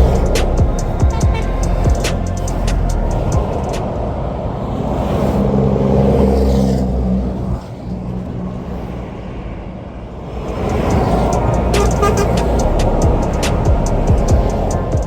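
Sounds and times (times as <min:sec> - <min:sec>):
lorry passing close: 0:00.0 - 0:15.0
traffic noise: 0:00.0 - 0:15.0.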